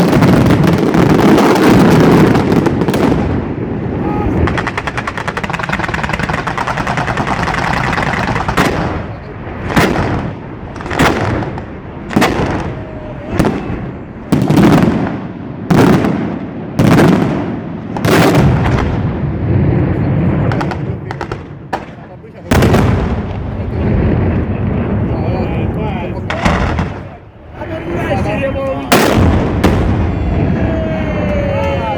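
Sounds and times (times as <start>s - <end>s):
fireworks bangs: 0.0s - 31.9s.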